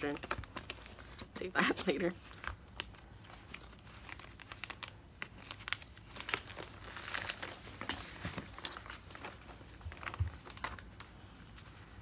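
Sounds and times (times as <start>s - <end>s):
plastic sleeve crinkling: 0.0s - 12.0s.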